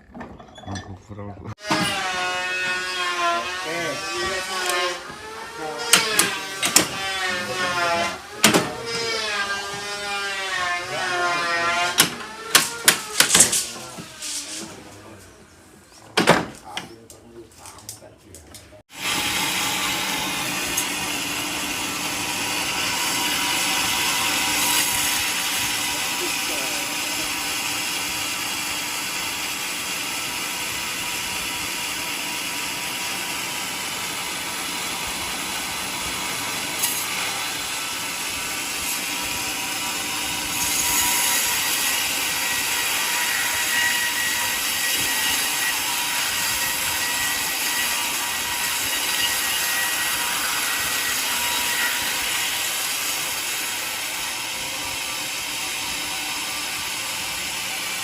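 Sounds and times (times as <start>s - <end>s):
sawmill running: 1.5s - 15.2s, 18.9s - 58.0s.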